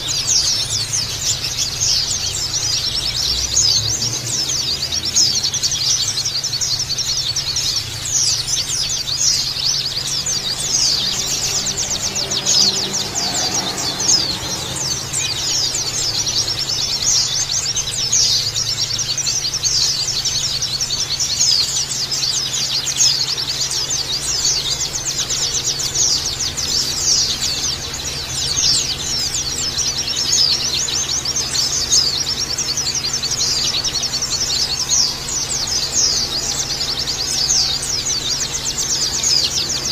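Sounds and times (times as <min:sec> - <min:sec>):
birds twittering and chirping: 0:00.0 - 0:39.9.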